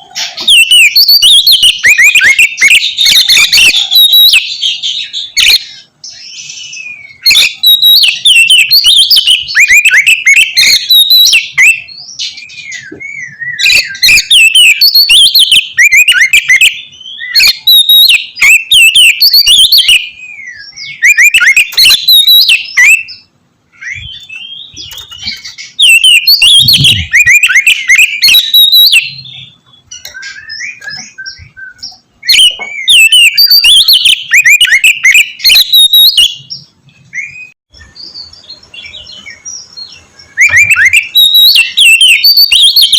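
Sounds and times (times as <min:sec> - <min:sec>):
bird whistling and chattering: 0:00.0 - 0:42.9.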